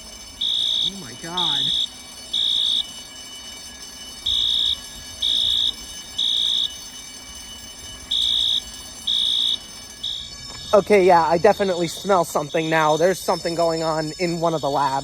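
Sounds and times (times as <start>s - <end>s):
fire alarm horn beeping: 0.0s - 15.0s.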